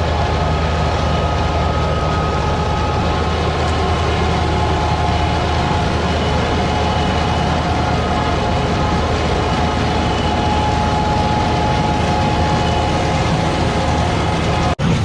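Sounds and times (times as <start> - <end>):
faint steady whine: 0.0 - 14.8
farm machine engine drone: 0.0 - 15.0.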